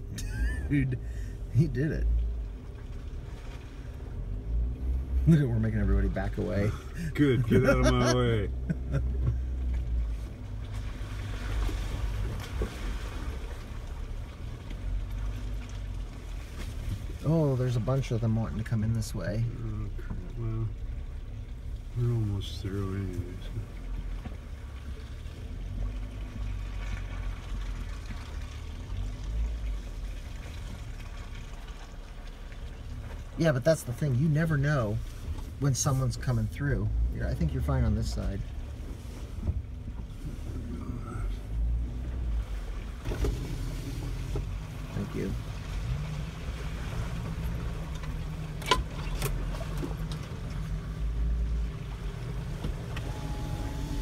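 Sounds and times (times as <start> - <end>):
engine running low: 0.0 - 54.0
tyres splashing through mud: 0.0 - 54.0.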